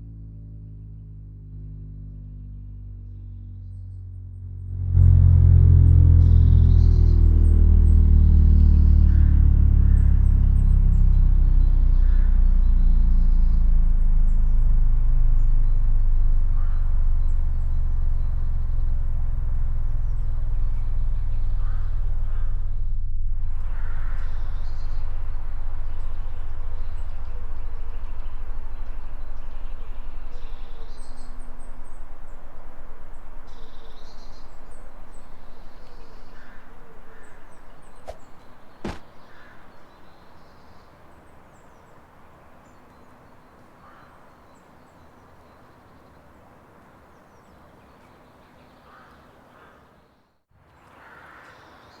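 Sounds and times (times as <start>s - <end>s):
low outdoor rumble: 0.0s - 46.9s
birds calling: 6.2s - 52.0s.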